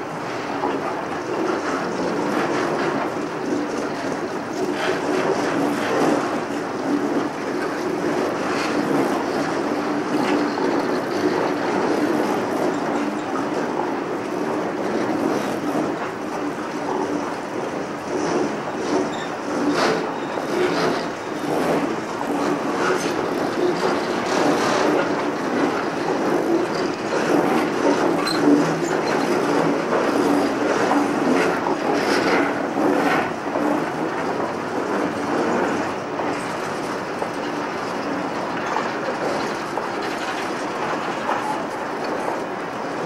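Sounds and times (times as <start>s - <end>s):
freight train wheels rolling: 0.0s - 43.0s
wheel clicks over rail joints: 0.3s - 43.0s.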